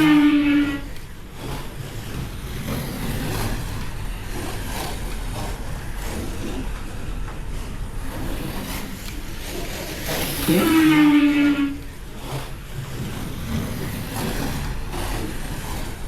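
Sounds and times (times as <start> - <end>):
slot cars whirring: 0.0 - 16.0.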